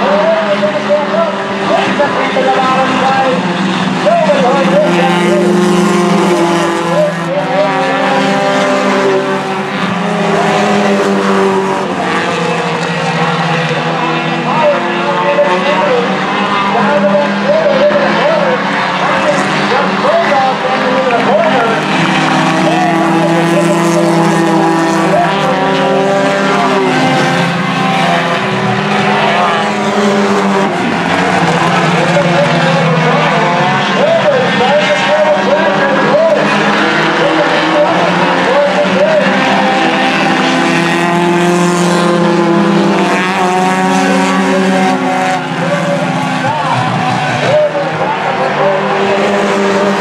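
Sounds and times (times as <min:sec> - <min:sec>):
race car engines droning: 0:00.0 - 0:50.0.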